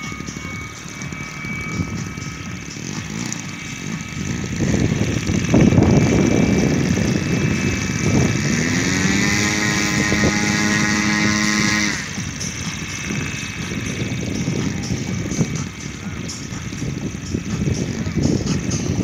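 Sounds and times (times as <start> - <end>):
model helicopter rotors churning: 0.0 - 19.0.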